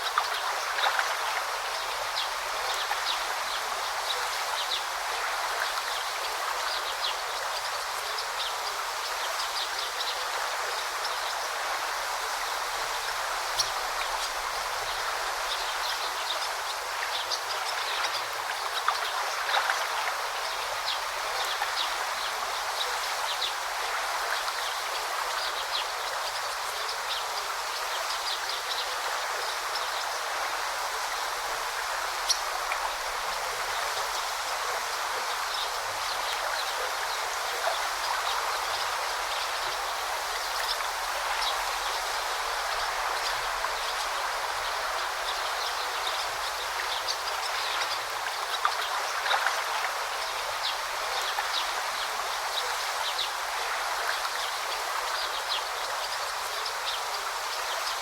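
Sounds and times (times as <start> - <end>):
stream flowing and babbling: 0.0 - 58.0.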